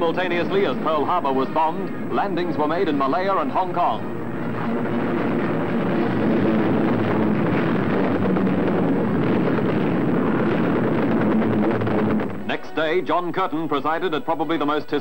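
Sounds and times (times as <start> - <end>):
dense rumble of bombing: 0.0 - 15.0.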